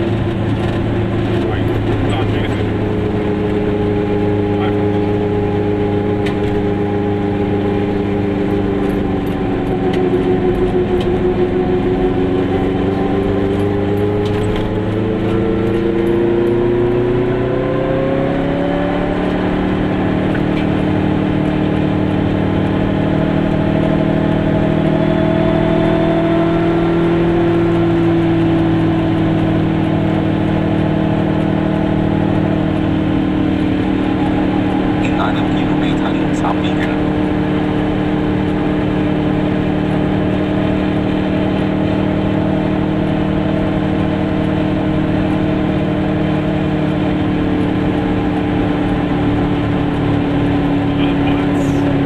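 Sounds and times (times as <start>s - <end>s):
two-stroke car engine running: 0.0s - 52.0s.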